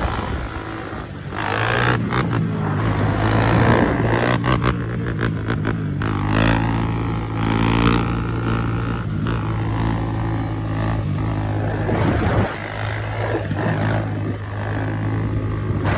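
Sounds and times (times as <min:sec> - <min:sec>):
dirt bike engine running: 0:00.0 - 0:15.9.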